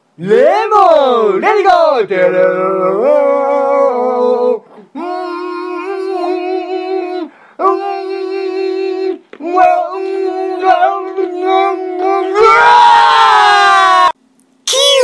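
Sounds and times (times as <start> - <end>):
man chanting pitch-corrected: 0.2 - 12.4.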